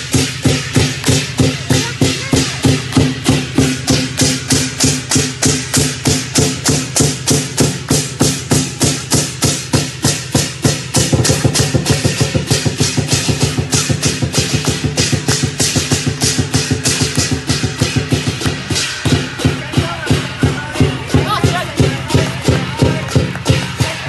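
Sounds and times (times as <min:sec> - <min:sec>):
big drum beating: 0:00.0 - 0:24.0
cymbals clashing: 0:00.0 - 0:24.0.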